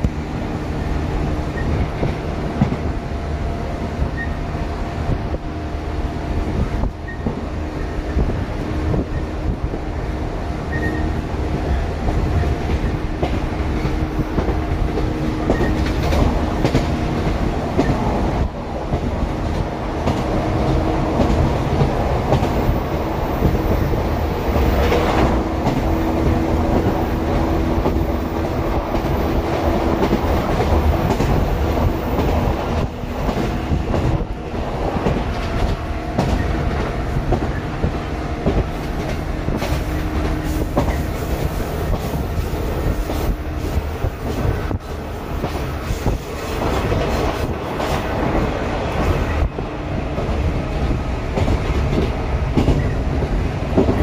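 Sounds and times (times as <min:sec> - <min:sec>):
clickety-clack over rail joints: 0:00.0 - 0:54.0
train motor hum: 0:00.0 - 0:54.0
train wheels rumbling on rail: 0:00.0 - 0:54.0.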